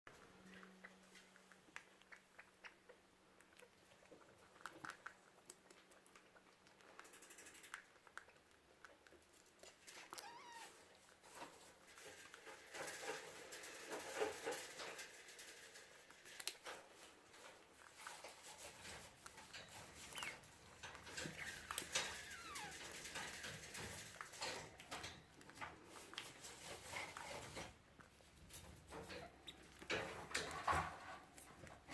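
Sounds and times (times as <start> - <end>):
degu scratching and rustling: 0.4 - 31.9.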